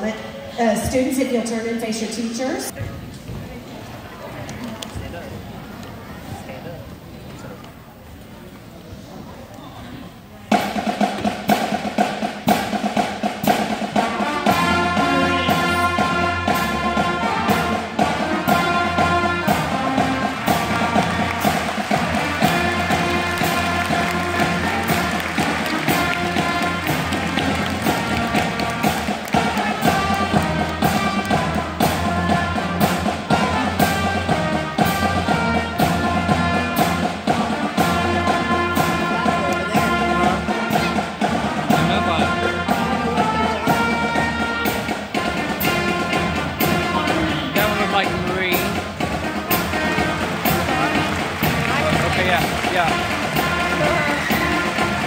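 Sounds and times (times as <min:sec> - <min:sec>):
concert band playing: 0:10.4 - 0:55.0
steady drum beat: 0:10.5 - 0:55.0.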